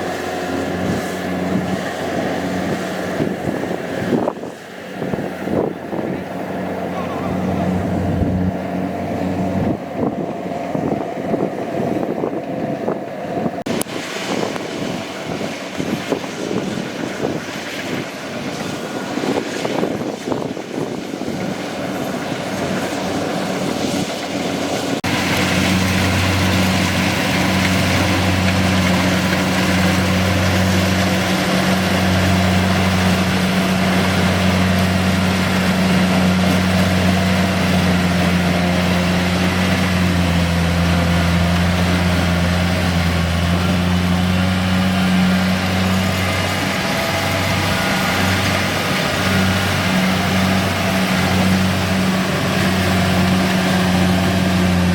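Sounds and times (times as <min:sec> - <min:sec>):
combine harvester clattering: 0:00.0 - 0:54.9
pulsing engine hum: 0:00.0 - 0:54.9.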